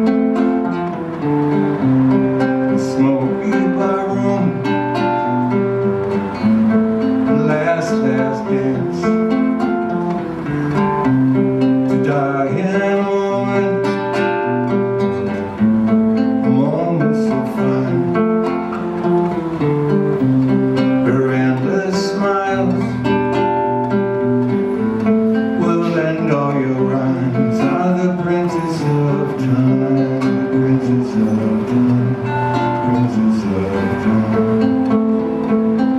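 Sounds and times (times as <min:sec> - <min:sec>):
acoustic guitar playing: 0:00.0 - 0:35.9.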